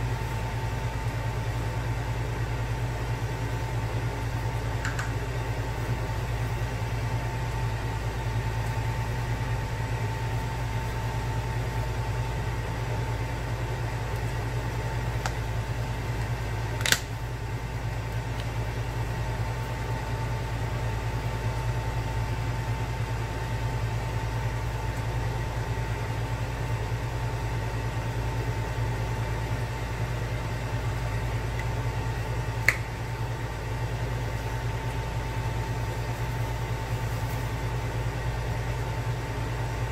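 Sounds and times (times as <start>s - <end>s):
machine hum with whine: 0.0s - 39.9s.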